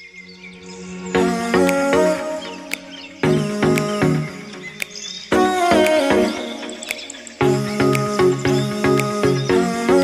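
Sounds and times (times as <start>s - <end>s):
music with chords and beat: 1.2s - 10.0s.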